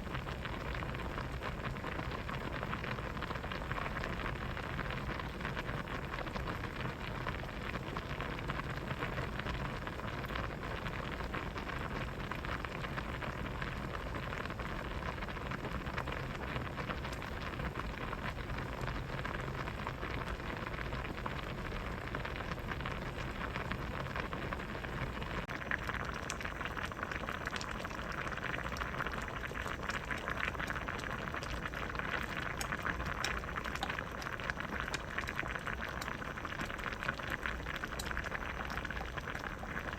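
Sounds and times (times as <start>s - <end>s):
soup boiling and bubbling: 0.0s - 39.9s.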